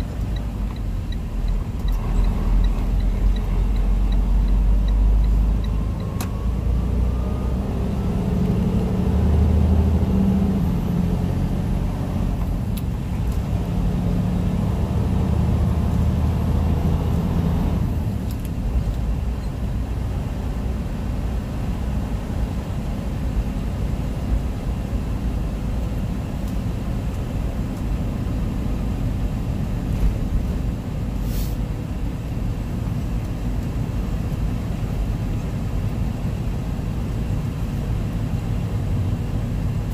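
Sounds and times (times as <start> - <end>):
road rumble: 0.0 - 39.9
truck diesel engine: 0.0 - 39.9.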